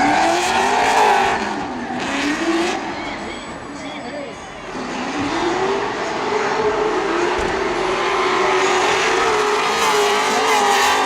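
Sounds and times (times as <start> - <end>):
racing engines at high revs: 0.0 - 3.8, 4.5 - 11.0.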